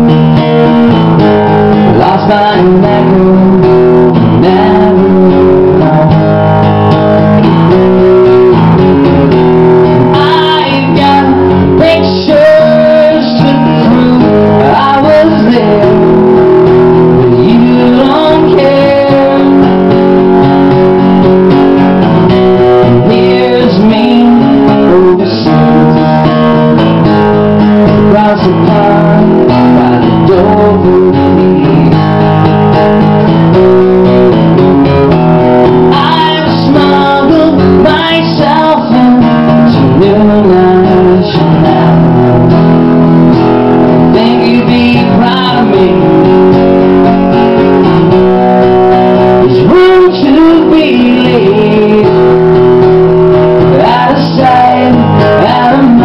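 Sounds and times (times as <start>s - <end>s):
man singing: 0.0s - 6.5s, 9.6s - 21.2s, 22.5s - 32.4s, 35.5s - 47.4s, 48.4s - 56.0s
acoustic guitar strumming: 0.0s - 56.0s.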